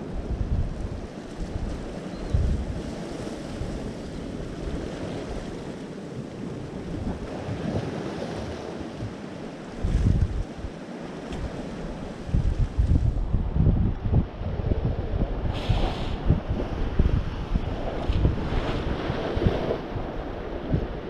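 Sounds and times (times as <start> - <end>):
surf washing against rocks: 0.0 - 13.5, 14.1 - 21.0
wind buffeting microphone: 0.0 - 21.0.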